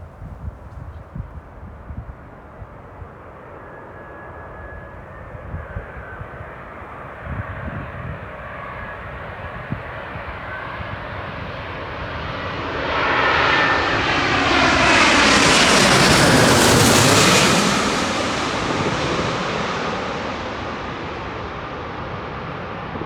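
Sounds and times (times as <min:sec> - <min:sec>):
jet airliner passing overhead: 0:00.4 - 0:23.0.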